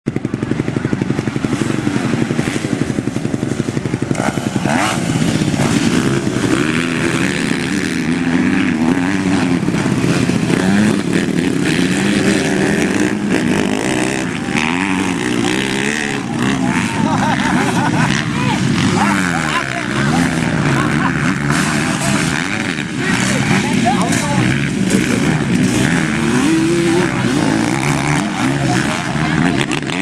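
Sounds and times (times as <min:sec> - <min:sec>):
dirt bike engine revving: 0:00.1 - 0:30.0.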